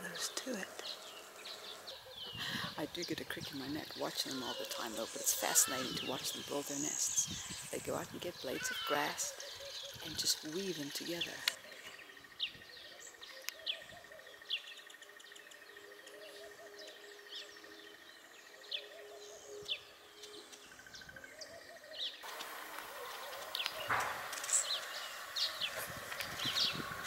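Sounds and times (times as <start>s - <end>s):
background noise: 0.0s - 27.0s
birds chirping: 0.0s - 27.0s.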